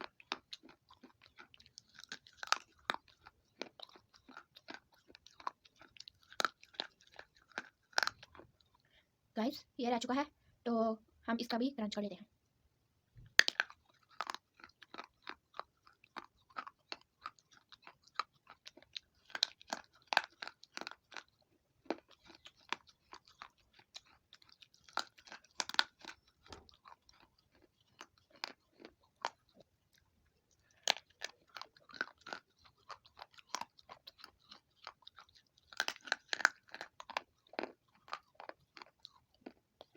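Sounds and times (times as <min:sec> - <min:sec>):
crunching between teeth: 0:00.0 - 0:08.9, 0:13.3 - 0:39.9.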